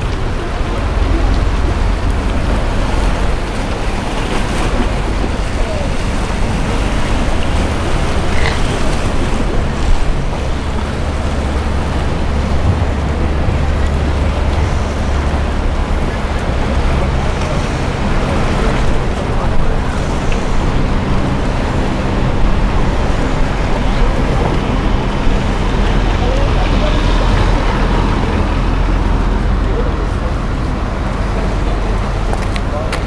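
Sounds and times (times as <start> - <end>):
low rumble: 0.0 - 33.0
sea surf: 0.0 - 33.0.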